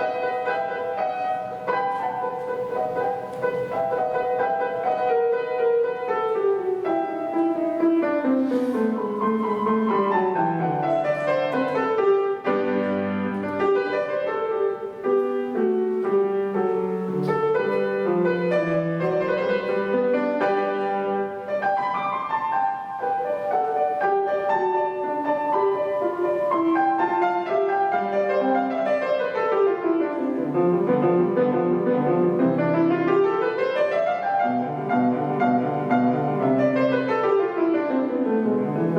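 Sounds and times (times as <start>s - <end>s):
solo classical piano: 0.0s - 38.9s.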